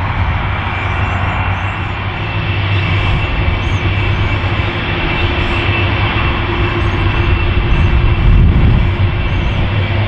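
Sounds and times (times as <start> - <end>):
jet engine high whine: 0.0 - 10.0
jet engines rumbling: 0.0 - 10.0.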